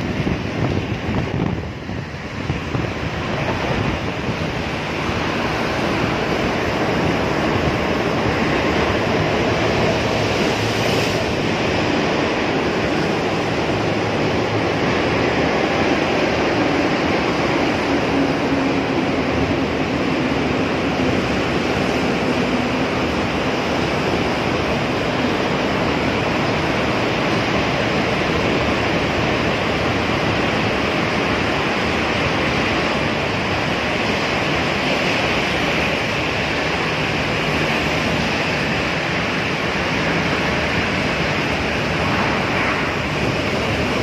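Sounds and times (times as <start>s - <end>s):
road and traffic noise echoing: 0.0s - 44.0s
wind on microphone: 0.0s - 44.0s.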